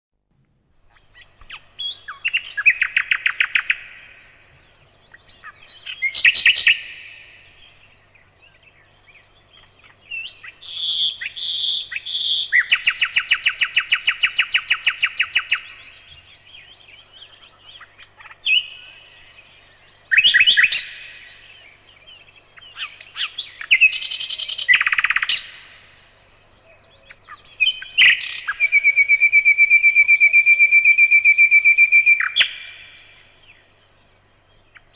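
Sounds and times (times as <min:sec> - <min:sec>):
nightingale singing: 0:00.7 - 0:34.9.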